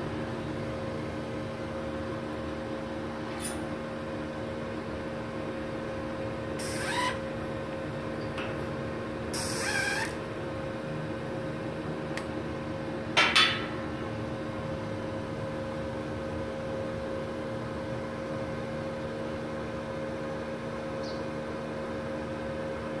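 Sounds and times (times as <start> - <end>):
welder humming with cooling fan: 0.0 - 23.0.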